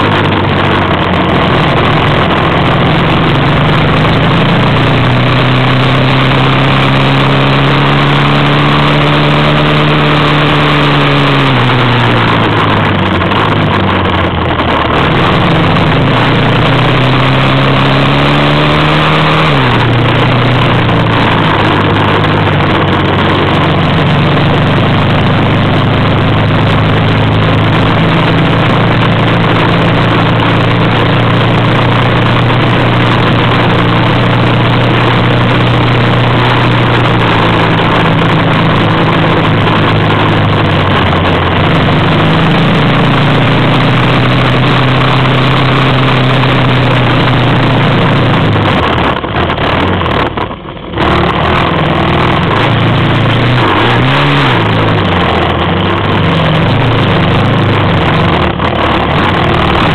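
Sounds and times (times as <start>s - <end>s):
constant rushing noise: 0.0s - 59.9s
off-road vehicle engine running: 0.0s - 59.9s.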